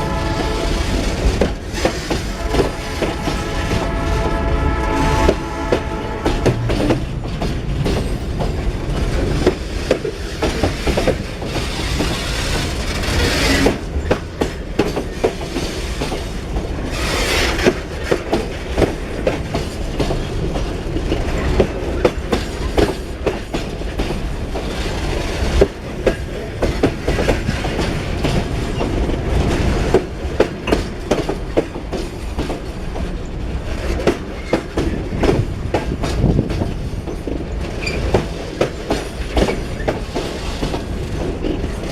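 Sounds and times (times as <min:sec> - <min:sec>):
low rumble of freight wagons: 0:00.0 - 0:41.9
train wheels clacking over rail joints: 0:00.0 - 0:41.9.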